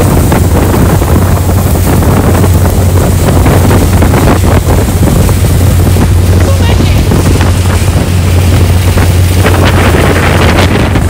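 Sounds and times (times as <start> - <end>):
ferry engine hum: 0.0 - 11.0
wind buffeting microphone: 0.0 - 11.0.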